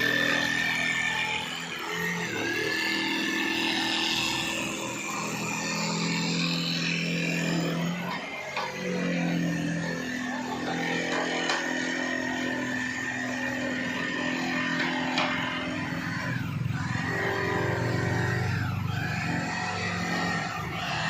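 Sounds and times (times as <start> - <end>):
woodworking machine whining: 0.0 - 21.0.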